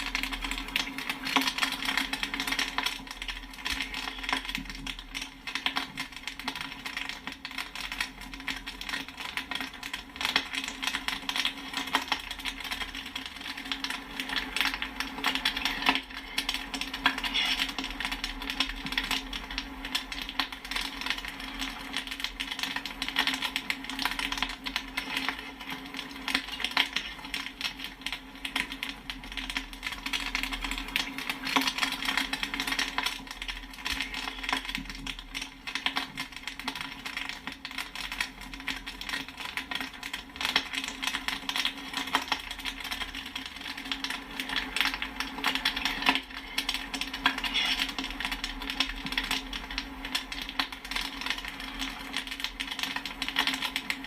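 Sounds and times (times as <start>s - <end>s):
popcorn popping: 0.0s - 54.0s.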